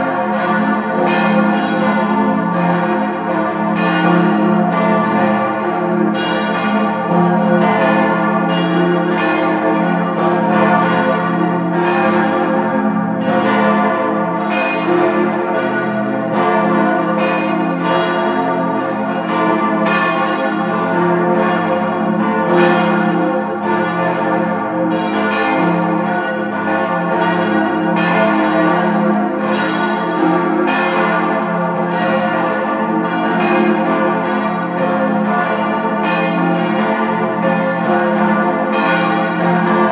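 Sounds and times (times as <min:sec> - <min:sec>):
large church bells ringing: 0:00.0 - 0:39.9.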